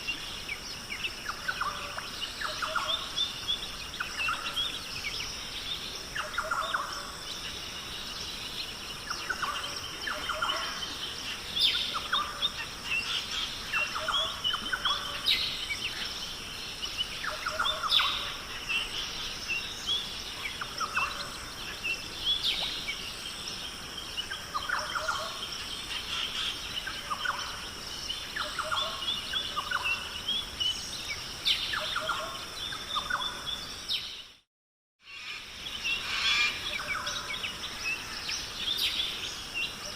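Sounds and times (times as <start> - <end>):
wild birds calling and chirping: 0.0 - 34.4, 35.0 - 39.9.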